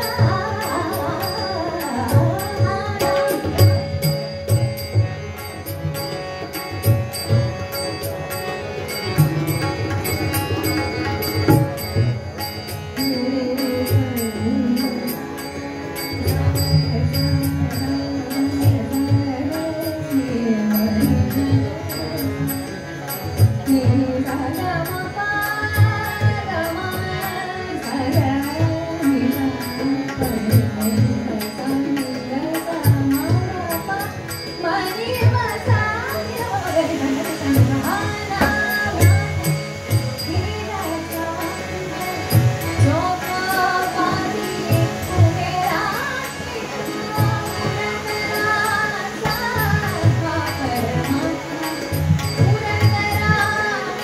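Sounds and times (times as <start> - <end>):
woman singing: 0.0 - 5.0, 12.4 - 54.0
harmonium: 0.0 - 54.0
small hand cymbals: 0.0 - 54.0
tabla: 0.0 - 54.0.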